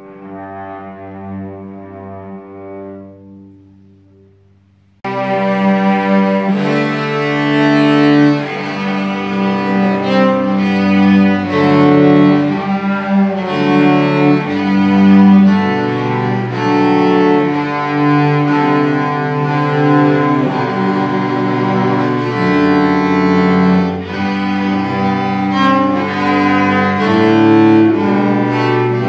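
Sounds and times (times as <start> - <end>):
cellos bowing in harmony: 5.1 - 29.0.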